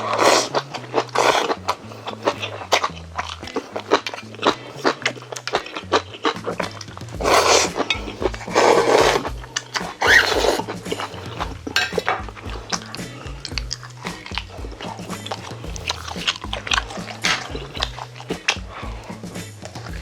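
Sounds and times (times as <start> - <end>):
wet chewing and smacking: 0.1 - 20.0.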